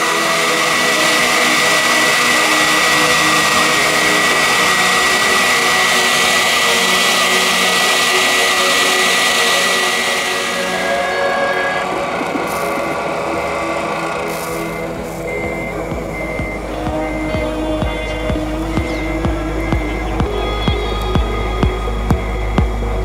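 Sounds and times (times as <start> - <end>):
rushing air: 0.0 - 22.6
high fan whine: 0.0 - 23.0.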